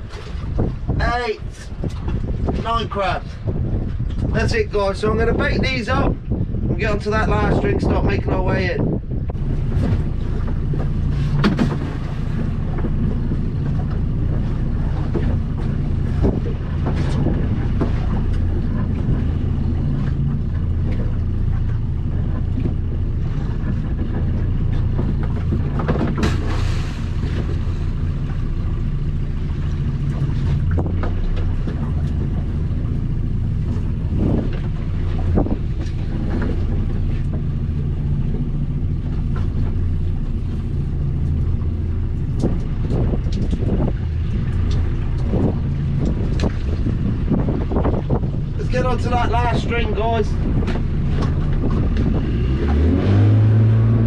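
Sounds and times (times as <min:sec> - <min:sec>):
outboard motor droning: 0:00.0 - 0:54.0.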